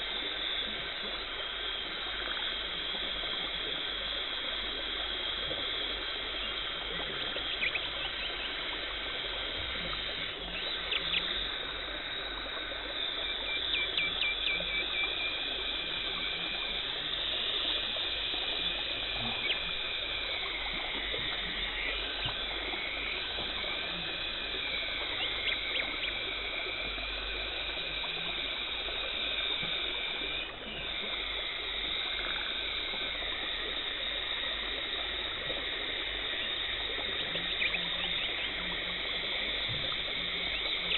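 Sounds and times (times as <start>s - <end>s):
water spray and suction hiss: 0.0s - 40.9s.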